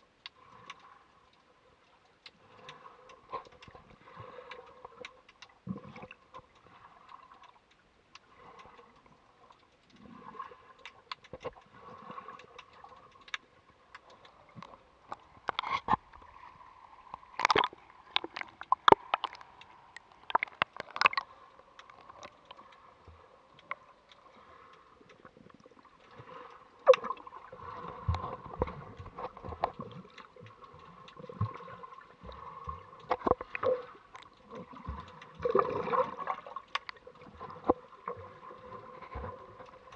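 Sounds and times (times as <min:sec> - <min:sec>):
low rumbling water: 0:00.0 - 0:39.9
water sloshing and gurgling: 0:00.0 - 0:39.9.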